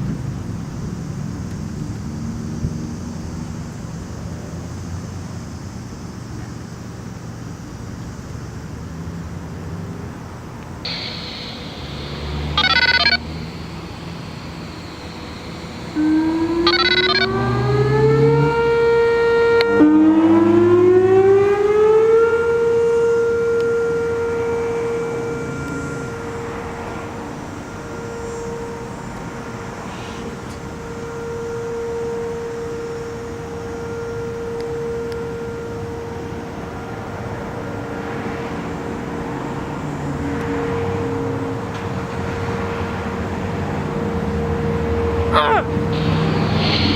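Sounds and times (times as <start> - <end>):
outdoor warning siren: 8.9 - 46.9.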